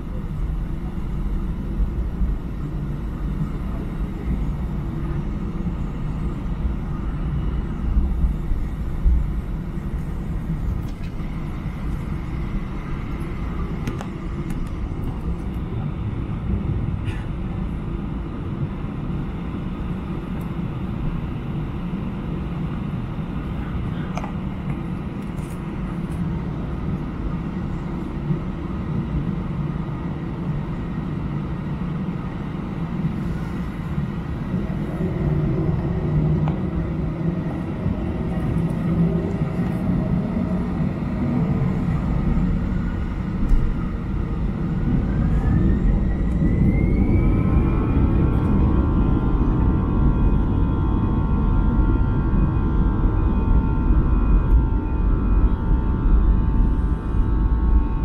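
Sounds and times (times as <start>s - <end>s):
jet engines at high power: 0.0s - 58.0s
wheels rumbling on runway: 0.0s - 58.0s.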